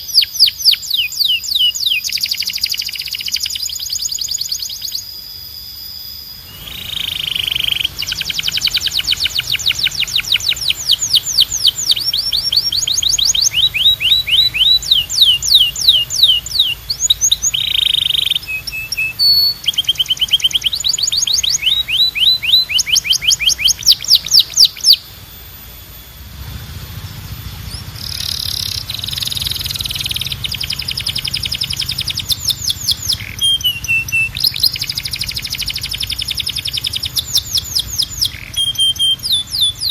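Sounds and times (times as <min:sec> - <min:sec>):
canary singing trills: 0:00.0 - 0:39.9
low steady hum: 0:00.0 - 0:39.9.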